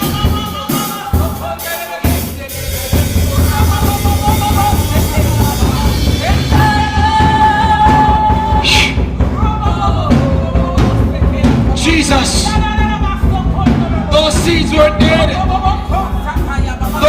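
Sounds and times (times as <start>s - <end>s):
live band drum kit: 0.0s - 17.0s.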